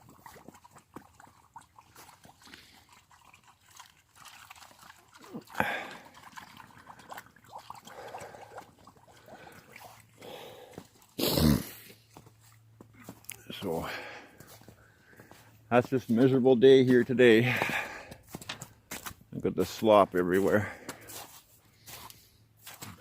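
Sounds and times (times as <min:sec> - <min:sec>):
pigs chewing feed: 0:00.0 - 0:19.2.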